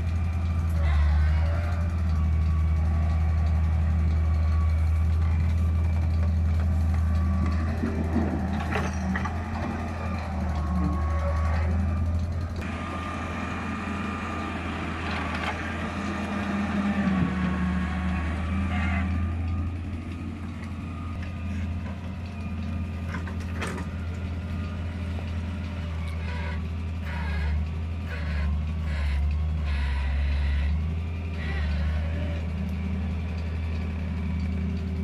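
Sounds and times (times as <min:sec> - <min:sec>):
diesel engines running: 0:00.0 - 0:35.0
whining tone: 0:00.0 - 0:35.0.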